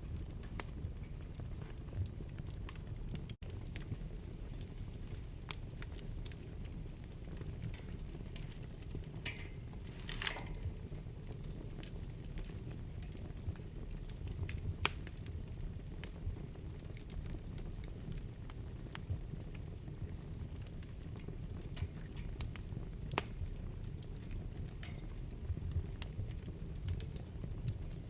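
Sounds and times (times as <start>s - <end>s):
low rumble of flames: 0.0s - 28.0s
wood fire crackling: 0.0s - 28.0s
sharp pops of fire: 0.2s - 28.0s.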